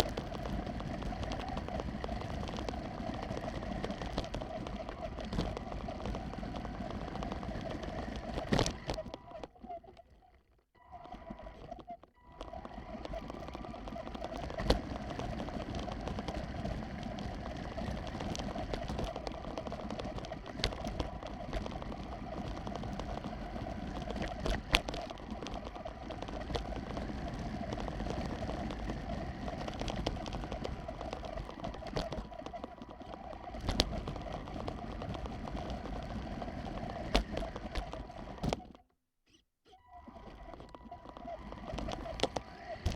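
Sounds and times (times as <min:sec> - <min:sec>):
radio-controlled truck running: 0:00.0 - 0:42.9.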